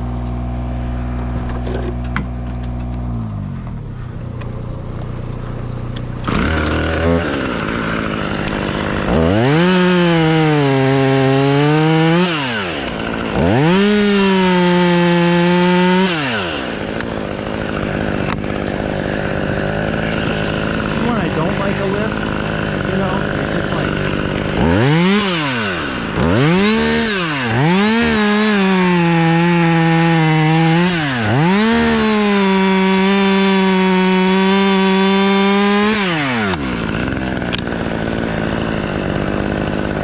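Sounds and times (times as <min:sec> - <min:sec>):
chainsaw cutting wood: 0:00.0 - 0:40.0
steady engine running: 0:00.0 - 0:40.0.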